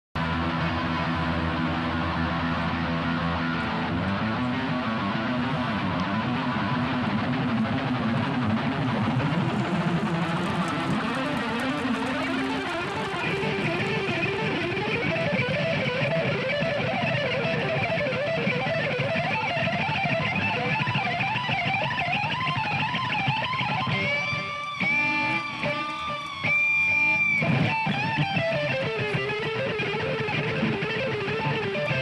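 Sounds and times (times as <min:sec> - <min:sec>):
electric guitar solo: 0:00.2 - 0:32.0.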